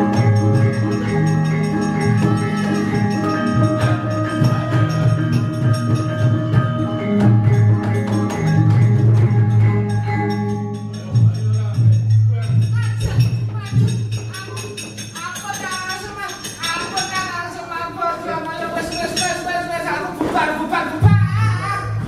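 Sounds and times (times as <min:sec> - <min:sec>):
metallophones and gongs ringing: 0:00.0 - 0:22.0.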